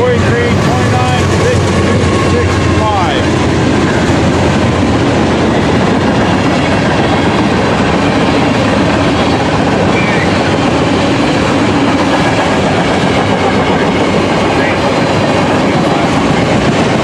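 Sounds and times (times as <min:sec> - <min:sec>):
freight train rumbling: 0:00.0 - 0:17.0
wheels clacking on rails: 0:00.0 - 0:17.0.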